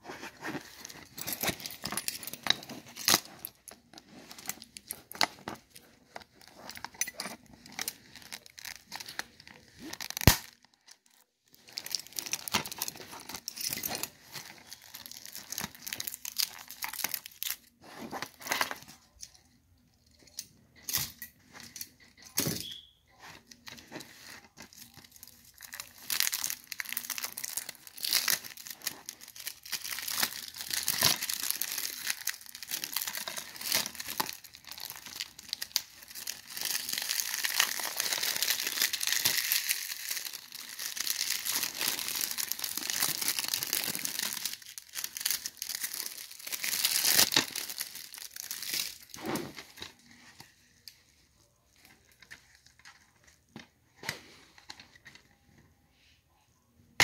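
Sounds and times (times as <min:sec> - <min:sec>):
plastic wrap crinkling and tearing: 0:00.0 - 0:19.1, 0:22.7 - 0:51.0.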